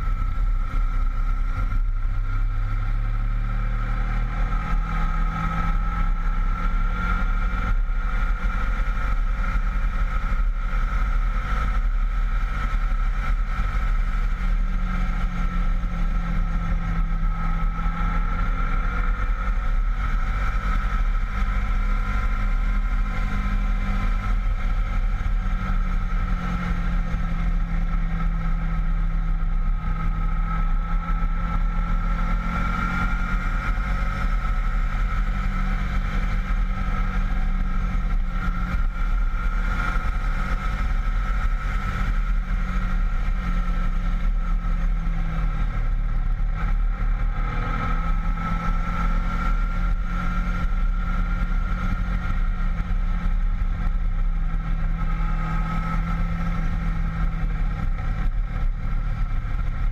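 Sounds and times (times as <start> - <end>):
low wind rumble: 0.0 - 59.9
motorcycle engine running: 0.0 - 59.9.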